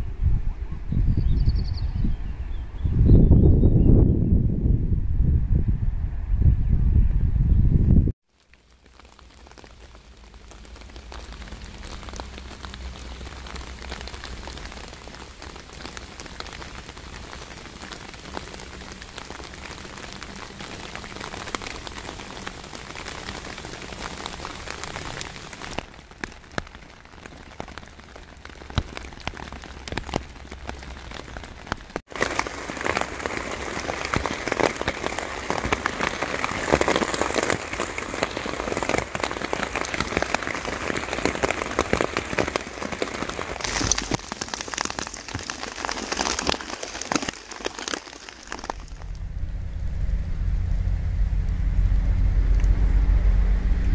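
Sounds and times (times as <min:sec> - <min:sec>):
rain pattering on water and ground: 0:08.2 - 0:53.9.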